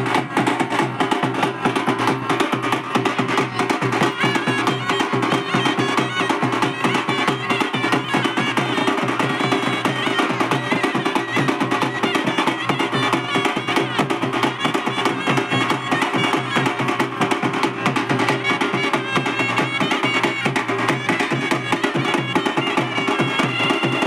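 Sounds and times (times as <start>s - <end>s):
fast dense drumming: 0.0s - 24.0s.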